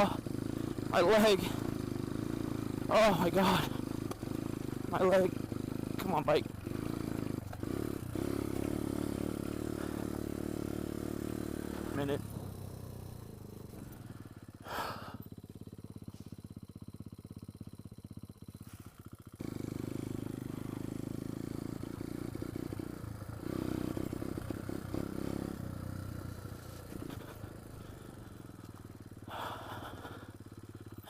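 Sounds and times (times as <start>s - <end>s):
small motorcycle engine revving: 0.0s - 31.0s.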